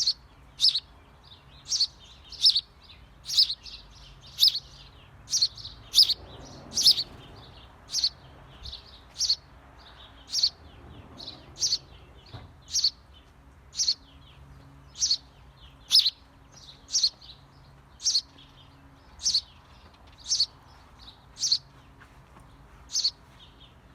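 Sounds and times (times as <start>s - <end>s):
small bird chirping: 0.0s - 13.0s, 13.7s - 21.8s, 22.9s - 23.6s.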